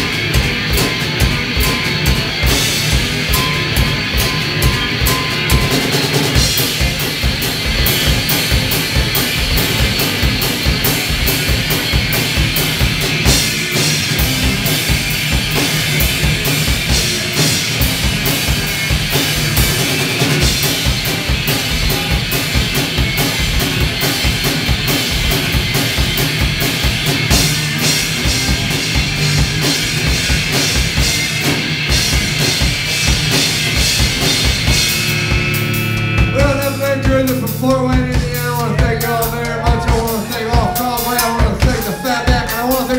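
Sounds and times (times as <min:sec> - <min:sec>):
electric guitar: 0:00.0 - 0:42.9
fast driving drumming: 0:00.0 - 0:42.9.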